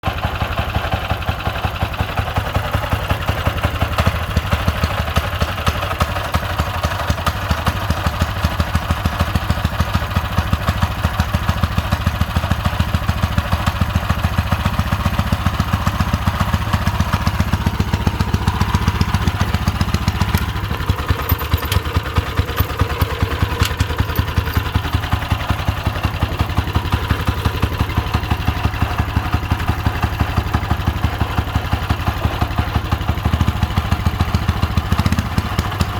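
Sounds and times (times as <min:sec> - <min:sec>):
small gasoline engine running: 0:00.0 - 0:35.9.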